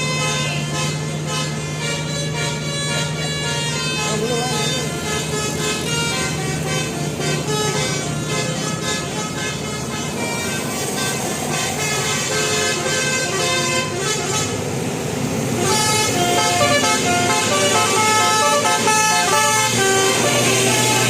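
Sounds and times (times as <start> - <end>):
horn playing a tune: 0.0 - 14.6, 15.5 - 21.0
low engine hum: 0.0 - 21.0.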